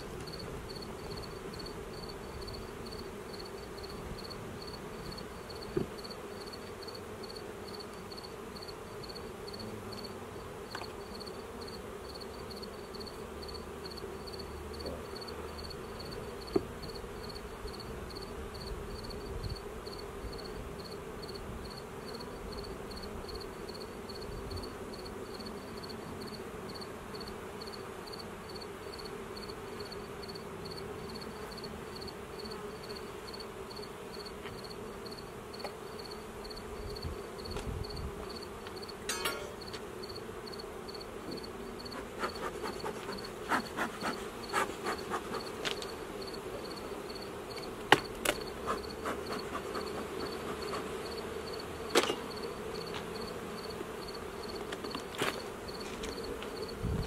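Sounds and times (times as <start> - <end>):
bees humming: 0.0 - 57.0.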